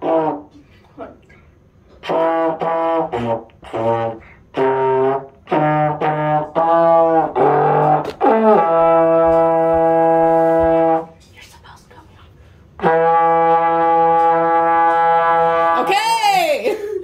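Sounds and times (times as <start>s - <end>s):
trombone playing a tune: 0.0s - 1.1s, 1.9s - 11.2s, 12.8s - 16.1s.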